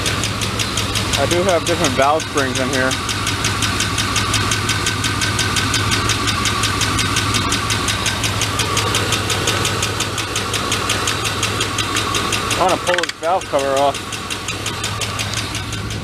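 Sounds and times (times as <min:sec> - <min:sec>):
pickup engine idling: 0:00.0 - 0:16.0
rapid valve train ticking: 0:00.0 - 0:16.0.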